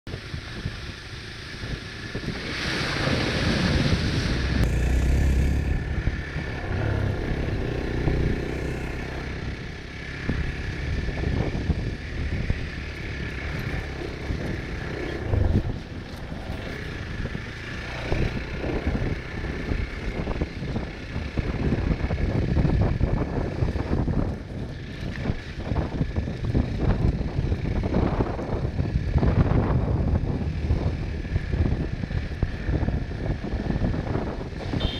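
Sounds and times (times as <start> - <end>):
motorcycle engine running: 0.1 - 34.9
wind on microphone: 0.1 - 34.9.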